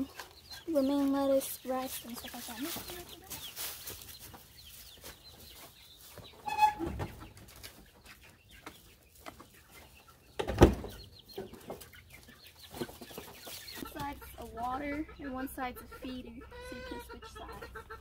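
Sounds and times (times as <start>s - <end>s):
quail chirping: 0.0s - 18.0s.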